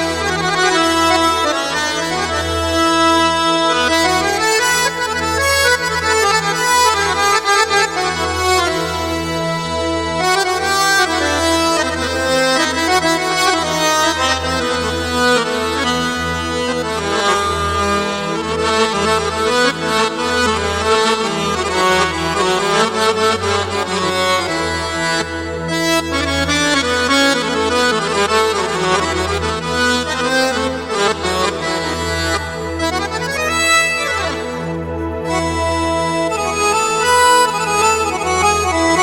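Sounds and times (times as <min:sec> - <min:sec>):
keyboard accordion melody: 0:00.0 - 0:39.0.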